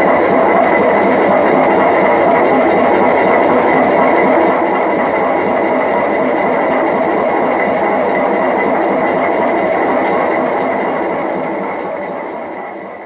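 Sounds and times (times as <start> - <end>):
flour mill motor whirring: 0.0 - 13.0.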